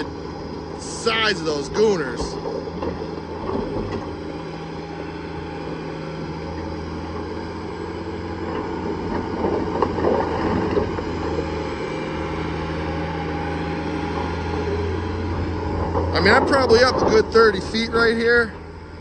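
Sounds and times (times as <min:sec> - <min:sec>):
diesel machinery droning: 0:00.0 - 0:19.0.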